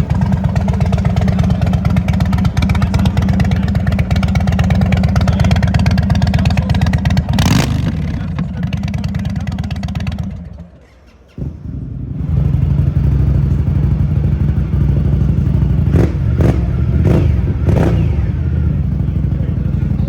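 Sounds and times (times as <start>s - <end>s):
motorcycle engine running: 0.0s - 10.8s, 11.4s - 20.0s.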